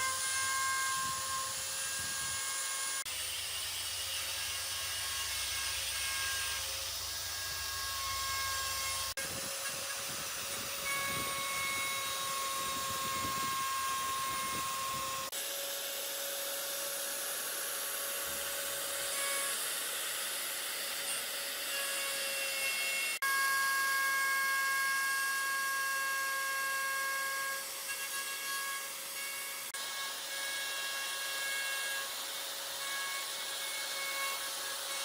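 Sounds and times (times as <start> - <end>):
power tool cutting wood: 0.0 - 35.0.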